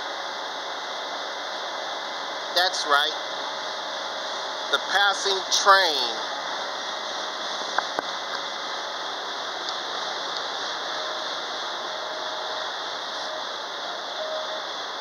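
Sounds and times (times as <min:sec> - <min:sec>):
faint thin whine: 0:00.0 - 0:15.0.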